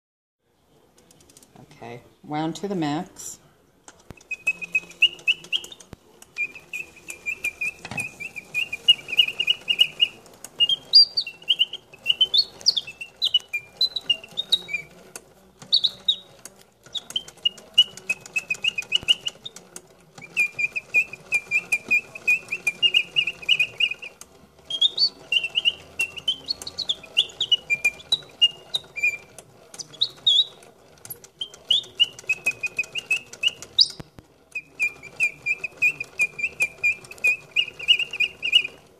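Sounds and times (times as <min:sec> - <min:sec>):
mechanical birdsong trills and warbles: 0:04.1 - 0:38.9.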